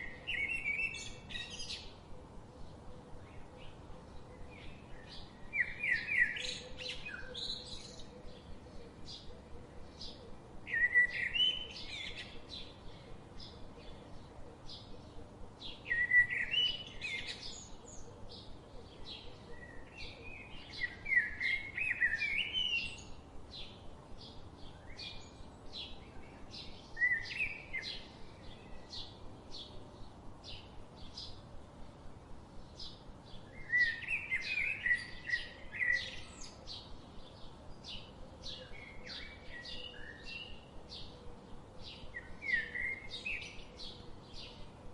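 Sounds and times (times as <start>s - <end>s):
warbled birdsong phrases: 0.0s - 31.8s, 32.5s - 44.9s.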